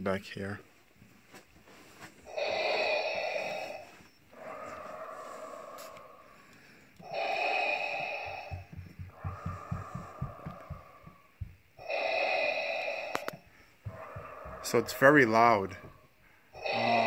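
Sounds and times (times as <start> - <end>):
mechanical respirator breathing: 2.1 - 17.0.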